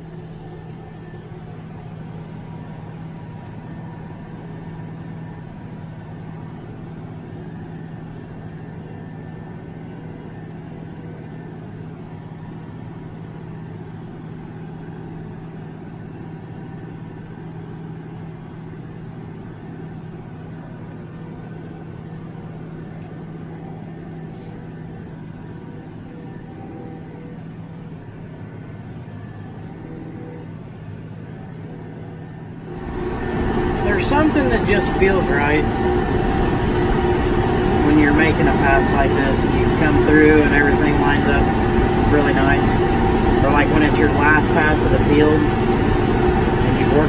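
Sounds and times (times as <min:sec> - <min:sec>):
tractor engine low hum: 0:00.0 - 0:47.0.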